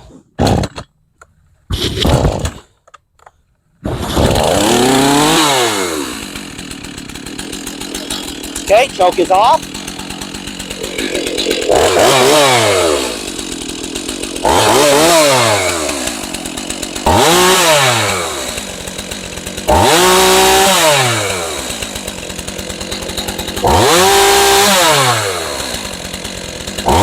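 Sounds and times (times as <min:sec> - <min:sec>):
chainsaw engine revving: 0:03.9 - 0:27.0.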